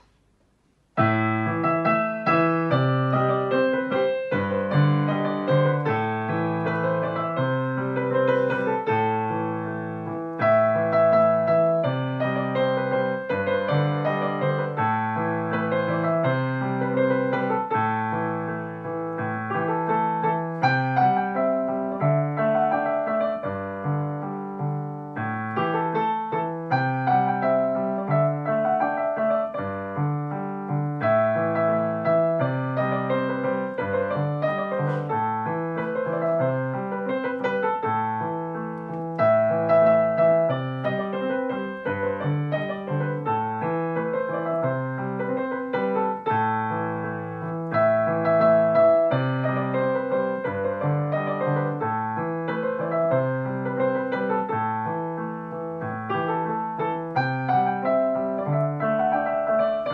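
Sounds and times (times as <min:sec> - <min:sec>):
digital piano melody and chords: 0:00.0 - 0:59.9.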